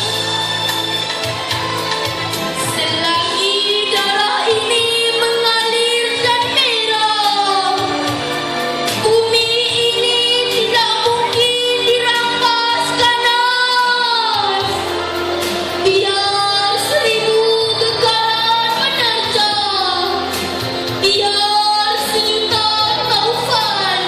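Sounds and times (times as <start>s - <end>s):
backing music: 0.0s - 24.0s.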